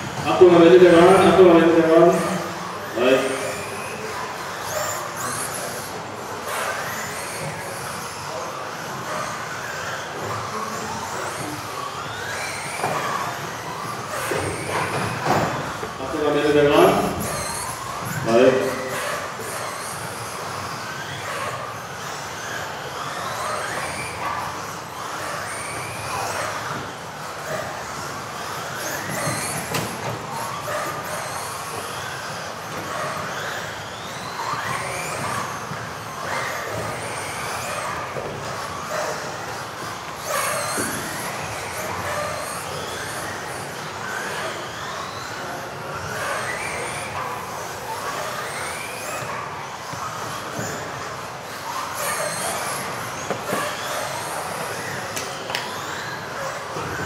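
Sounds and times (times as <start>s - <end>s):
rc car motors whining: 0.0s - 57.0s.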